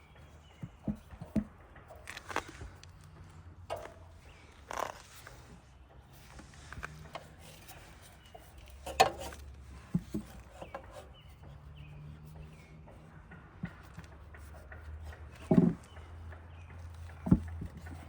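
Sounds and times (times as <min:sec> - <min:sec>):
light clicks and knocks: 0:00.0 - 0:18.0.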